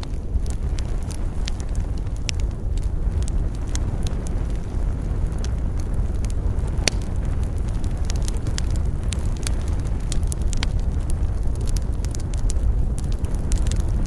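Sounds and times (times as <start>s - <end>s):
burning wood crackling and popping: 0.0s - 14.0s
campfire flames rumbling: 0.0s - 14.0s.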